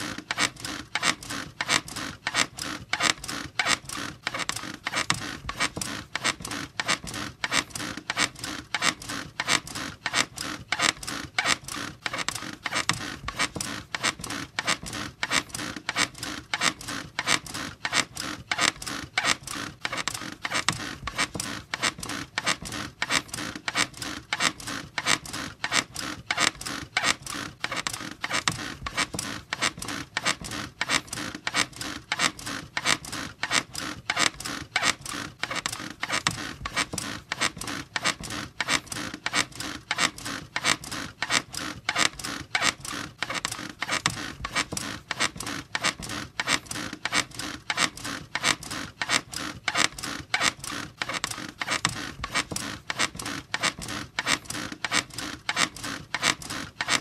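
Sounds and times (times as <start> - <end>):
squeaky bed creaking: 0.0 - 57.0.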